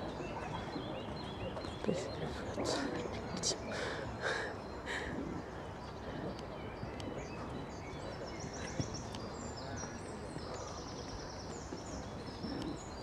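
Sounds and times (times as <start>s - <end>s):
low background noise: 0.0s - 13.0s
small birds chirping and trilling: 0.0s - 13.0s.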